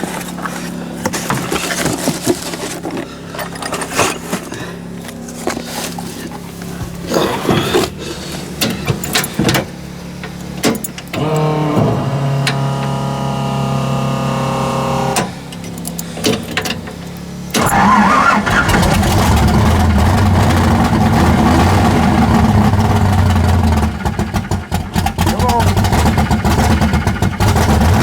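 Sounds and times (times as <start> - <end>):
car engine running: 0.0 - 28.0
car starter cranking: 0.0 - 28.0.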